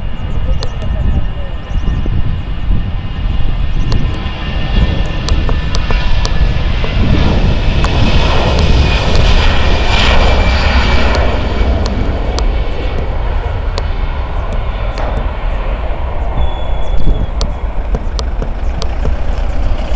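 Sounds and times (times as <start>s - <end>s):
jet engines at takeoff thrust: 0.0s - 19.9s.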